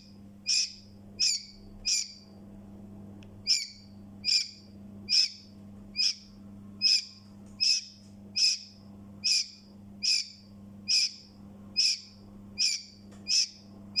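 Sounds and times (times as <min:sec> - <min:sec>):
steady low hum: 0:00.0 - 0:14.0
chick peeping loudly: 0:00.4 - 0:02.2, 0:03.5 - 0:06.2, 0:06.8 - 0:14.0.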